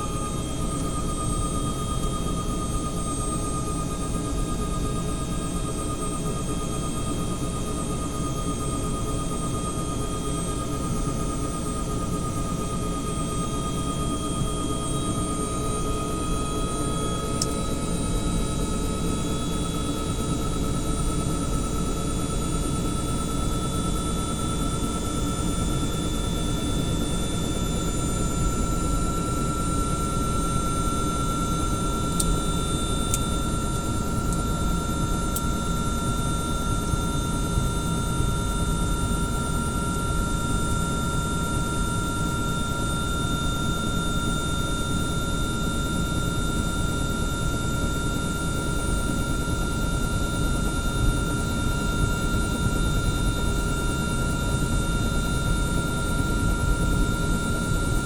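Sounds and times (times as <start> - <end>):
helicopter turbine whine: 0.0 - 58.0.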